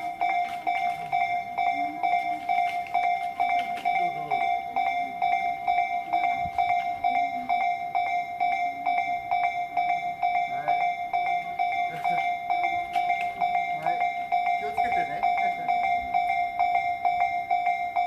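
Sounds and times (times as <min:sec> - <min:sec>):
level crossing bell ringing: 0:00.0 - 0:18.0.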